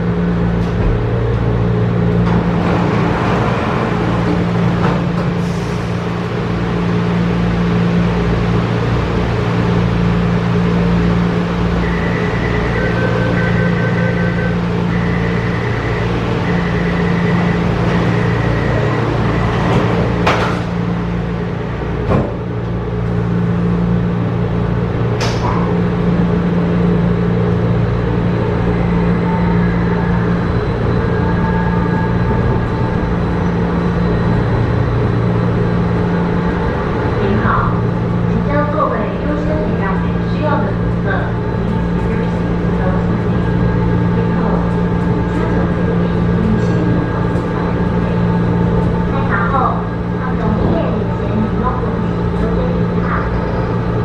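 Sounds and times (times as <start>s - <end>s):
train low hum: 0.0s - 54.0s.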